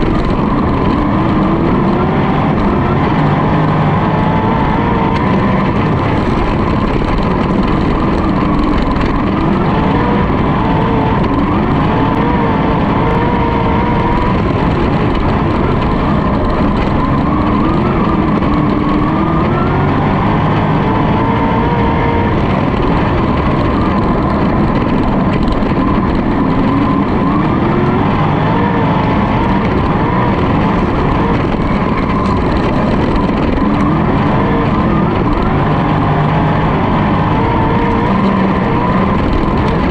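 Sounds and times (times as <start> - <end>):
racing car engine: 0.0 - 39.9
steady rush of noise: 0.0 - 39.9.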